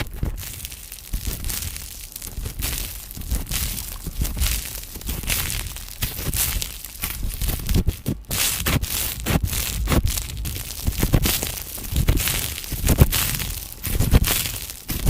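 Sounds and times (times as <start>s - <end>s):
slime squished by hands: 0.0s - 15.0s.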